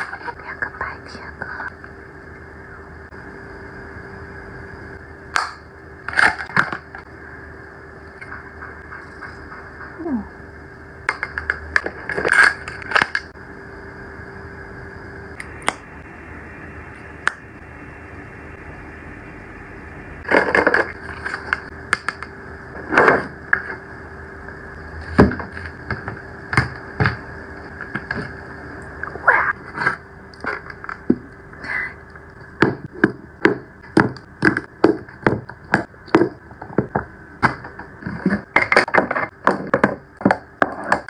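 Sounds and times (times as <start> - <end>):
steady faint hum: 0.0 - 41.0.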